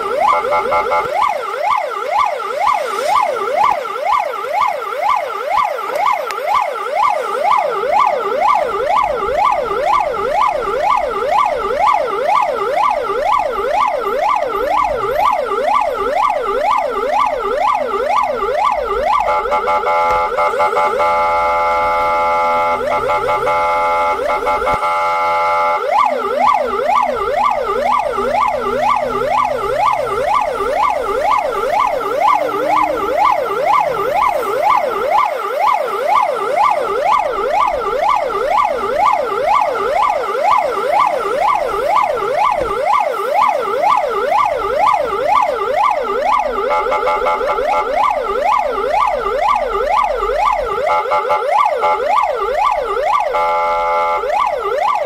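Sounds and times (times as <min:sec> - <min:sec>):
fire truck siren sweeping: 0:00.0 - 0:55.0.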